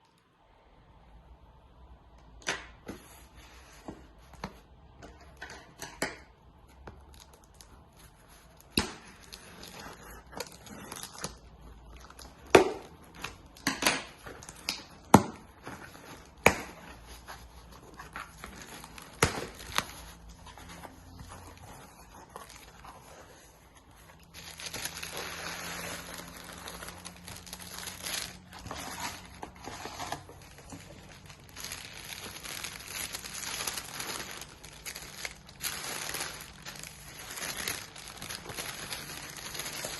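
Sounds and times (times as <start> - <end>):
wrapping crinkling: 6.8 - 39.9.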